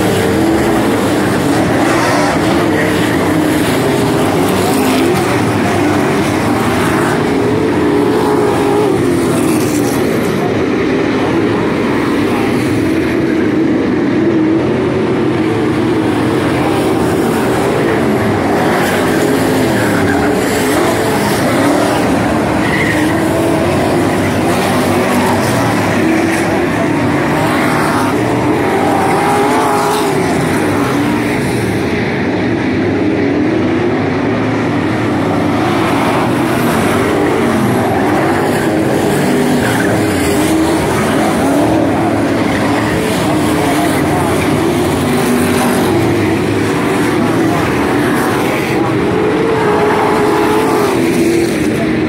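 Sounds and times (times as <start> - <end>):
race car engines roaring: 0.0 - 52.0.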